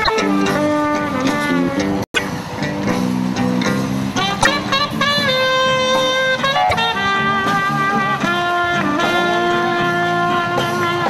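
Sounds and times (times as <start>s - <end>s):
brass-led music: 0.0s - 2.0s, 4.1s - 11.0s.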